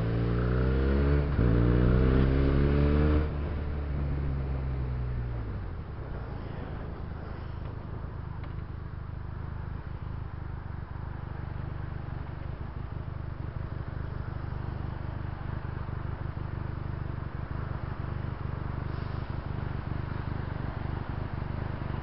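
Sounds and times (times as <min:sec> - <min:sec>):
motorcycle engine low rumble: 0:00.0 - 0:22.0.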